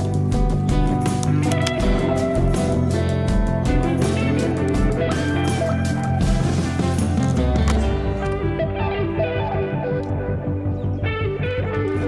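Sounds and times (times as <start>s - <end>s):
melody of short stepping notes: 0.0s - 12.0s
steady low bass line: 0.0s - 12.0s.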